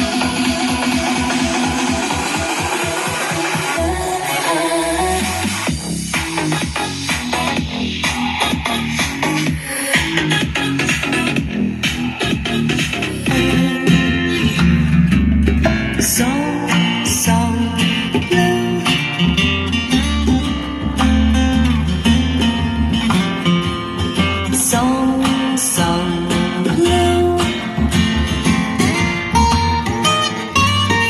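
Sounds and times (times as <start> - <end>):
music with guitar bass and beat: 0.0 - 31.0.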